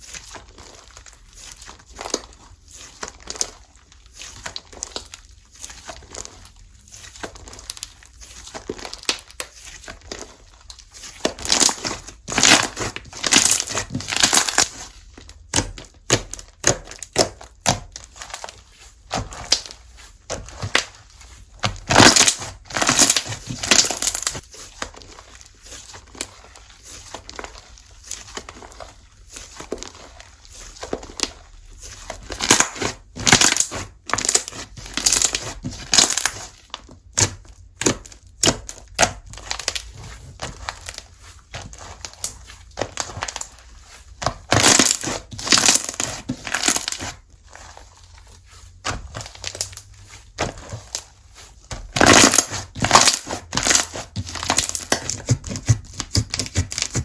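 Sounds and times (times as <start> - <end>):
slime squished by hand: 0.0 - 57.0.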